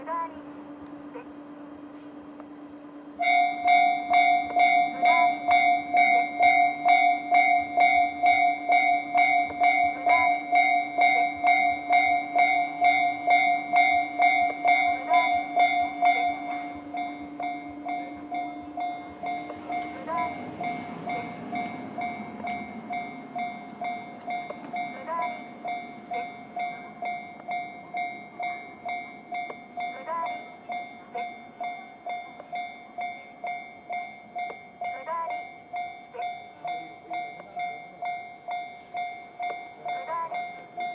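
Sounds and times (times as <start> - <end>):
electric train rumble: 0.0 - 40.9
level crossing warning bell: 0.0 - 40.9.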